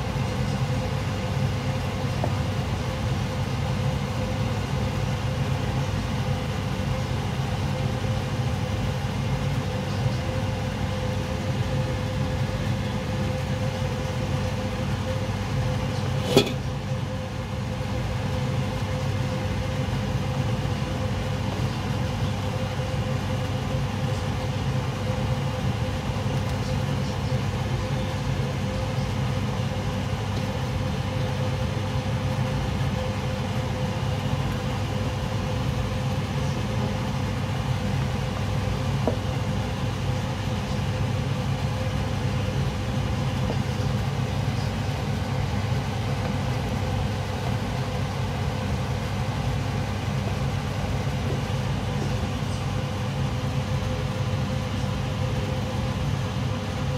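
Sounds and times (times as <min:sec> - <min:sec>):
faint steady whine: 0:00.0 - 0:56.9
pot boiling: 0:00.0 - 0:56.9.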